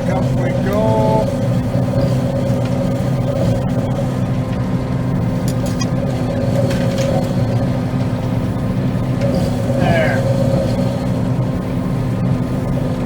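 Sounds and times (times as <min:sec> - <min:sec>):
combine harvester engine drone: 0:00.0 - 0:13.0
high machinery whine: 0:00.0 - 0:13.0.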